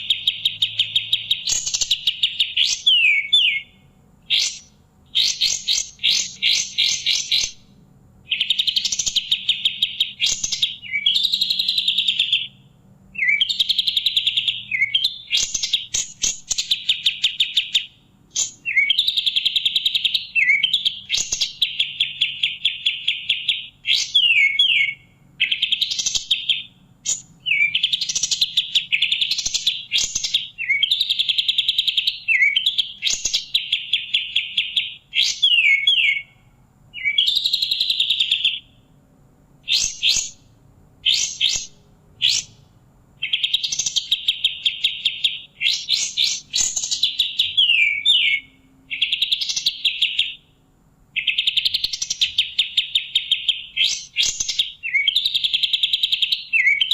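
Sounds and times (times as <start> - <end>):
bird singing trilled phrases: 0.0 - 39.0, 39.6 - 56.9.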